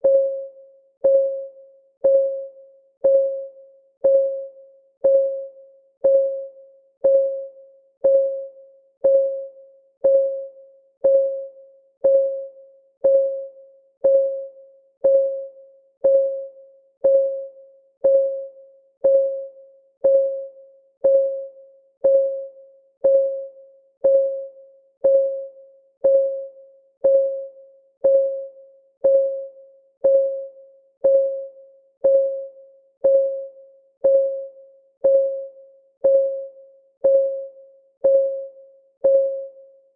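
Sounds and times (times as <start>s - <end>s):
countdown timer ticking: 2.0s - 2.4s, 3.0s - 4.4s, 5.0s - 39.6s.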